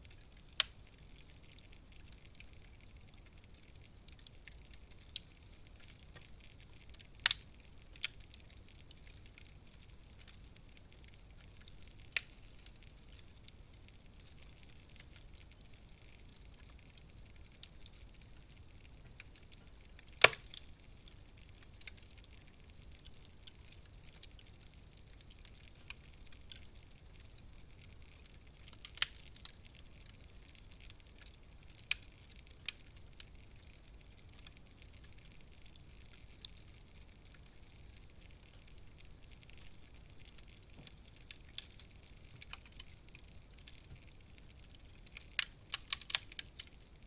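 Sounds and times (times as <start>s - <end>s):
faint steady hiss: 0.0s - 47.0s
wood fire crackling: 0.0s - 47.0s.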